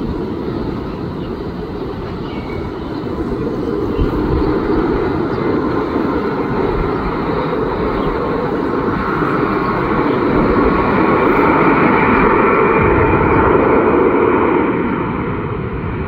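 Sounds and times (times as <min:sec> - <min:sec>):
jet engine whine: 0:00.0 - 0:16.0
jet engines rumbling: 0:00.0 - 0:16.0.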